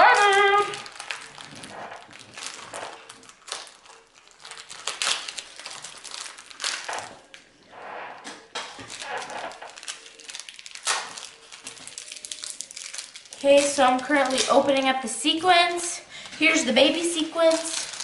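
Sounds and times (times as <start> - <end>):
plastic packets crinkling: 0.0 - 7.8, 8.4 - 18.0.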